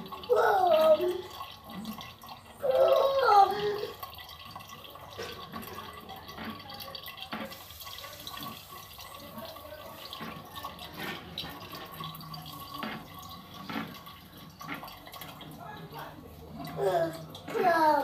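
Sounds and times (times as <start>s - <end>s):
juice dripping into a plastic jug: 0.0s - 18.0s.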